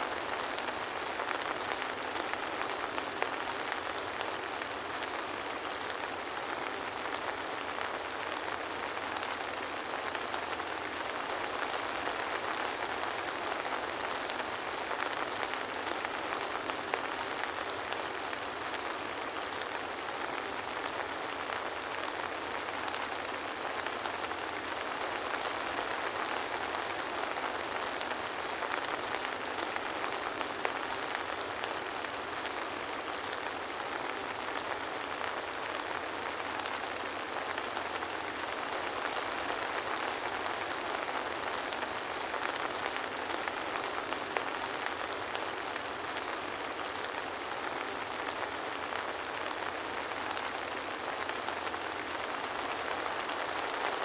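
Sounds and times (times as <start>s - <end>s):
soft rain pattering: 0.0s - 54.0s.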